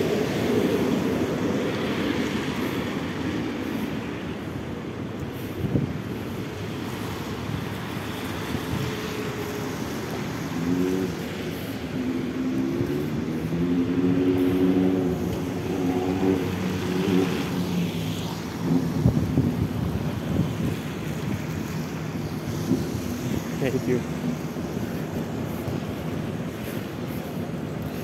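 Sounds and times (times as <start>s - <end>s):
street noise rumble: 0.0s - 28.0s.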